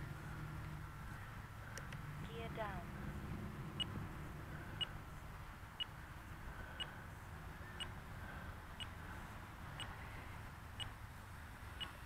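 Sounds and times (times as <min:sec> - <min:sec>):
faint low outdoor rumble: 0:00.0 - 0:12.0.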